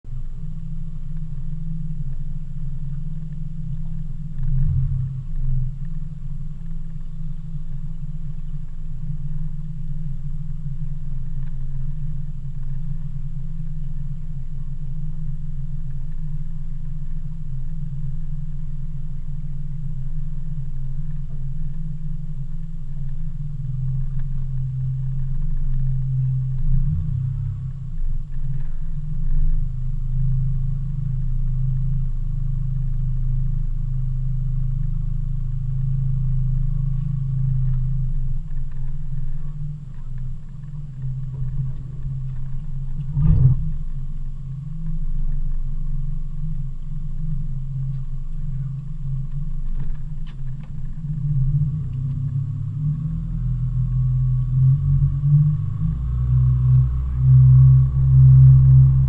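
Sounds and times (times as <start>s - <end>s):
outboard motor running: 0.1s - 59.0s.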